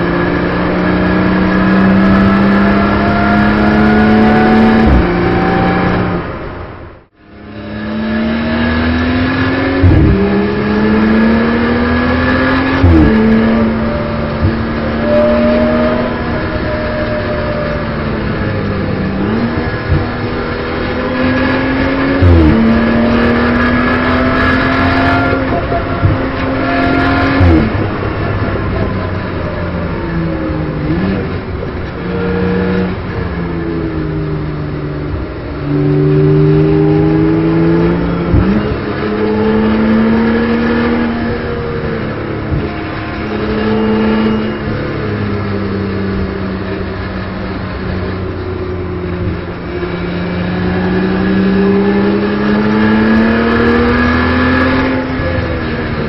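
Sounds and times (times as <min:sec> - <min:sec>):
car engine accelerating through gears: 0:00.0 - 0:06.7, 0:07.3 - 0:56.0.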